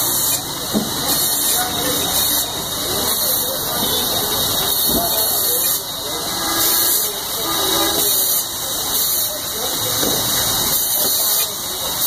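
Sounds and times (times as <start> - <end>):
hydraulic press hissing: 0.0 - 12.0.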